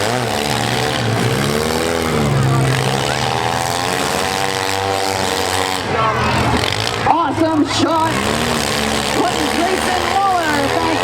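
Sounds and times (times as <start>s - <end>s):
small car engines revving: 0.0s - 11.0s.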